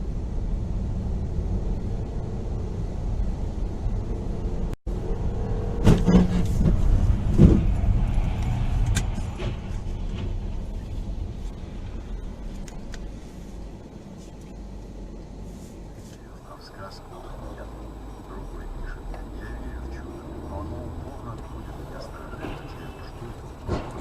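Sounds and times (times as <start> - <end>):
car road rumble: 0.0 - 24.0.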